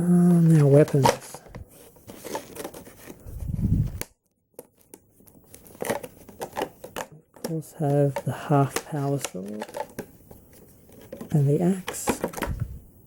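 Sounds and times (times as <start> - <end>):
plastic packaging rustling: 0.1 - 4.0, 4.6 - 12.6.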